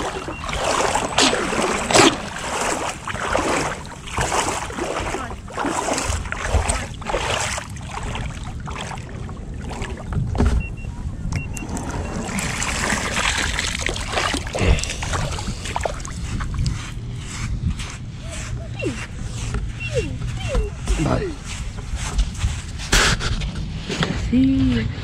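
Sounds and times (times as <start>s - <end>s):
rc boat rushing through water: 0.0s - 22.8s.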